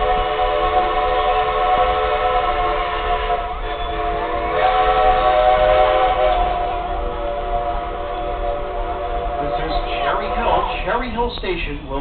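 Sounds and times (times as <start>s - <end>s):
steam locomotive whistle blowing: 0.0s - 11.0s.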